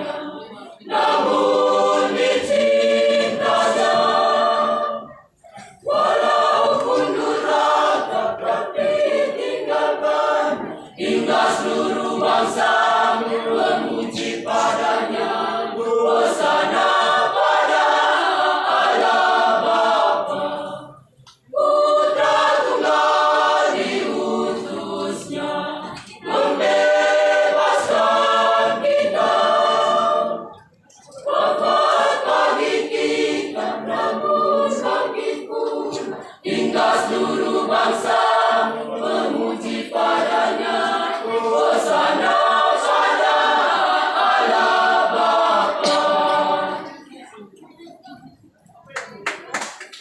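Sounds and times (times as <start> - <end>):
choir singing in harmony: 0.0 - 47.4.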